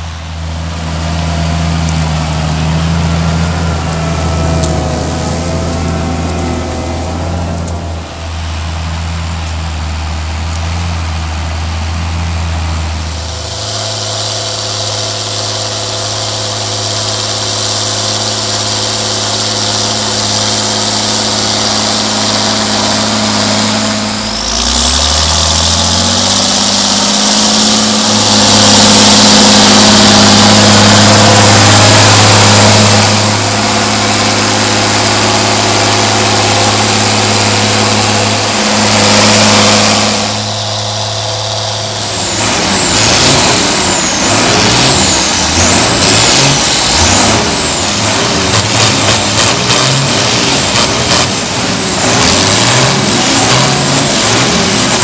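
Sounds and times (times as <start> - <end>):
diesel tractor under load: 0.0 - 55.0
tractor diesels revving: 0.0 - 55.0.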